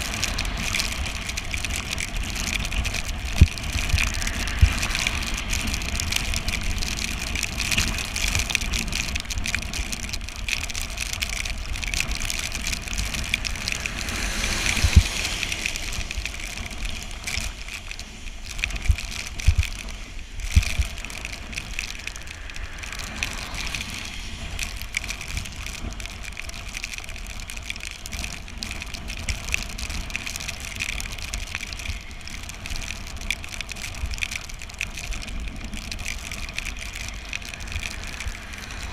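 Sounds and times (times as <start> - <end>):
low rumble: 0.0 - 30.6, 33.6 - 38.9
tyres hissing on wet road: 0.0 - 38.9.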